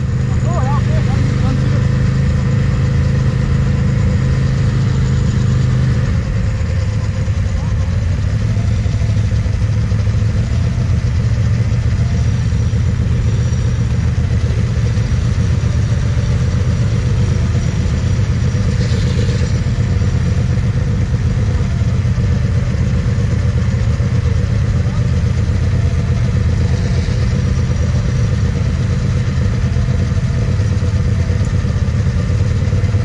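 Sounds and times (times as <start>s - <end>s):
quad bike engine idling: 0.0s - 33.0s.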